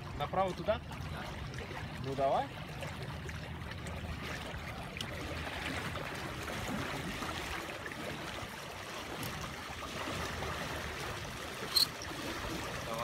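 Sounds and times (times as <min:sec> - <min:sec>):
water rushing along boat hulls: 0:00.0 - 0:13.0.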